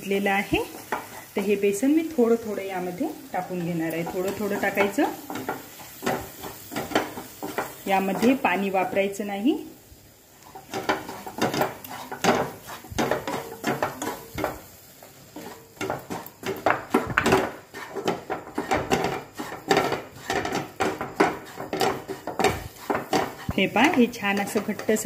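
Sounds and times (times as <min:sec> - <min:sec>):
wooden spatula scraping a pan: 0:00.0 - 0:09.2, 0:10.3 - 0:25.0.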